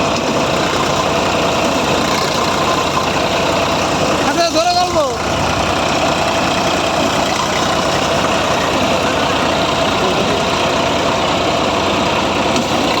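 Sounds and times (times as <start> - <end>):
backhoe loader engine idling: 0.0 - 13.0.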